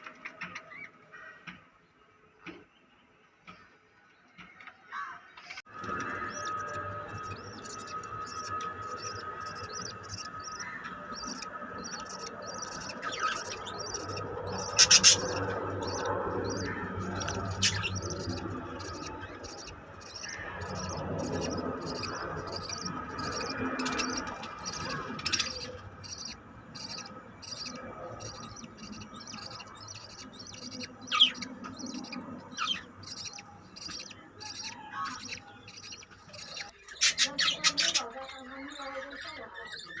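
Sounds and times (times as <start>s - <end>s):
budgerigars chirping and chattering: 5.4s - 40.0s.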